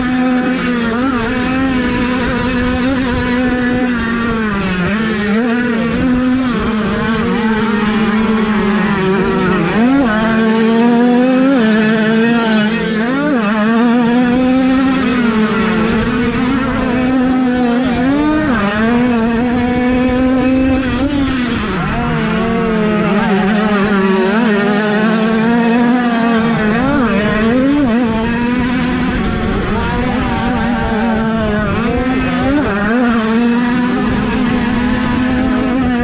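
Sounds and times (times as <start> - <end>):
two-stroke bikes high-pitched buzz: 0.0 - 36.0.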